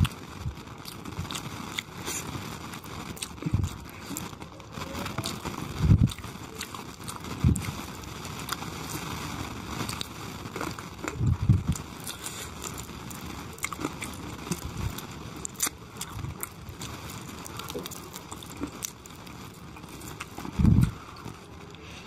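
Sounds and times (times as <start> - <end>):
wet chewing and lip-smacking: 0.8 - 4.4, 5.1 - 7.8, 9.8 - 21.4.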